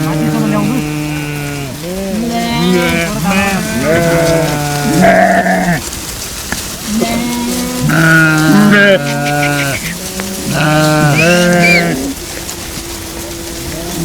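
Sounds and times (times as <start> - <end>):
sheep bleating: 0.0 - 5.9, 6.8 - 14.0.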